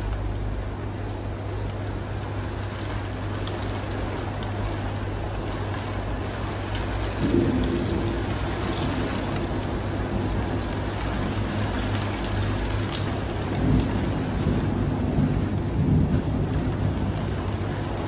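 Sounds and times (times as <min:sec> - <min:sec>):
heavy rain and floodwater rushing: 0:00.0 - 0:18.0.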